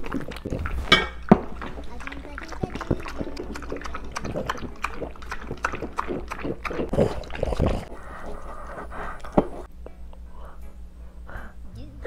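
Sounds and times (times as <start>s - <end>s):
dogs licking and lapping food: 0.0s - 9.7s.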